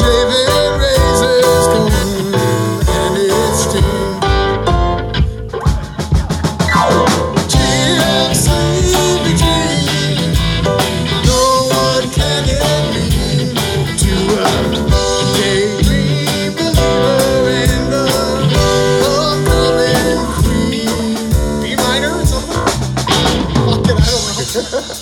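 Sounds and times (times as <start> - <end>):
bass guitar: 0.0 - 25.0
electric guitar: 0.0 - 25.0
keyboard: 0.0 - 25.0
steady drum beat: 0.0 - 25.0.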